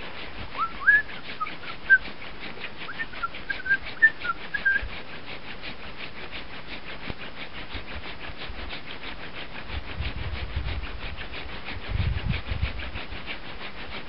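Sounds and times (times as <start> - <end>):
hand drill rasping on wood: 0.0 - 14.0.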